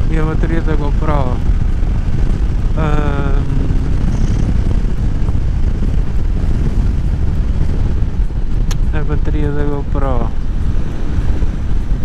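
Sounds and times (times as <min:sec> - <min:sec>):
motorcycle engine running: 0:00.0 - 0:12.0
wind roar on microphone: 0:00.0 - 0:12.0.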